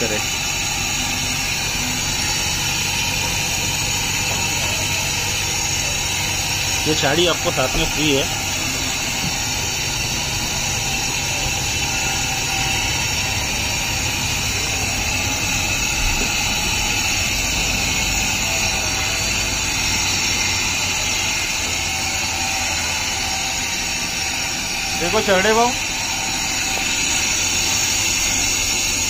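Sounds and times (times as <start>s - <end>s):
mixing machine running: 0.0s - 29.0s.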